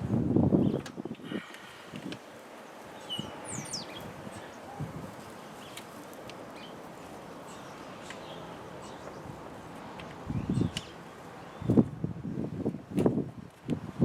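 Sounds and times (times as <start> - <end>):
steady background hiss: 0.0 - 14.0
birds chirping: 0.5 - 12.5.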